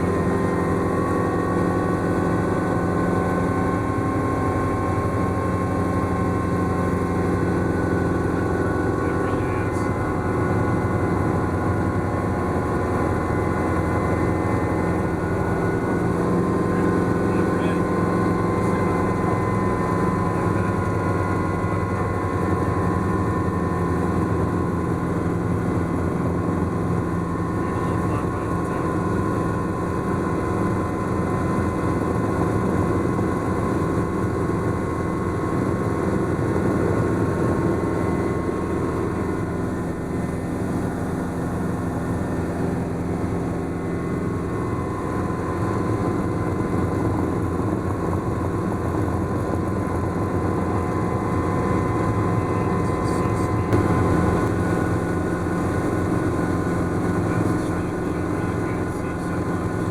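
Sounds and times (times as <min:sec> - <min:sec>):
helicopter engine and rotors droning: 0:00.0 - 0:59.9.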